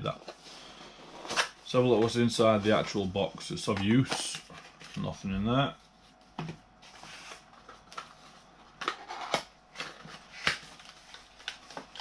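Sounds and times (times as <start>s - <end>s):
cardboard and paper rustling: 0.1s - 12.0s.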